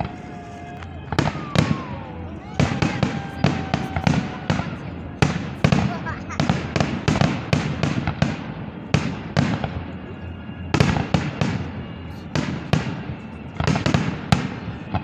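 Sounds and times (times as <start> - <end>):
fireworks bursting with echo: 0.0 - 15.0.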